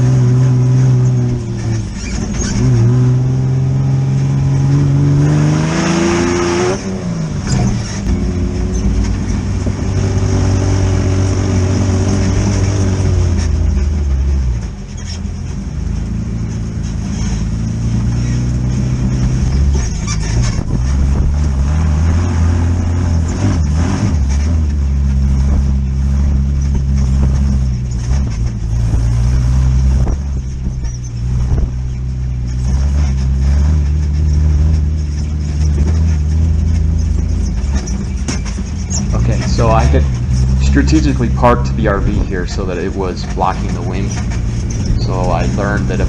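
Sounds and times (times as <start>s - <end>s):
buggy engine revving: 0.0s - 46.0s.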